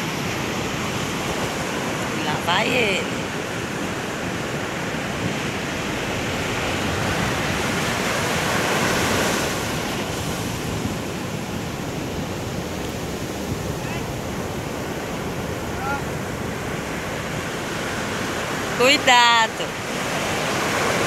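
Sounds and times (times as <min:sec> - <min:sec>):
ocean surf breaking: 0:00.0 - 0:21.0.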